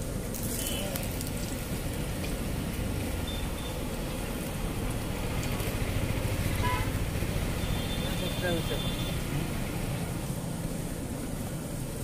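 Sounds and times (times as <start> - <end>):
low rumble of griddle stall: 0.0 - 12.0.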